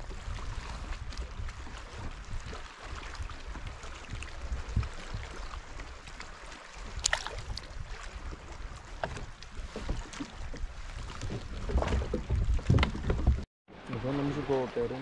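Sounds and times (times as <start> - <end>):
water lapping against kayak hull: 0.0 - 15.0
wind rumbling on microphone: 0.0 - 15.0.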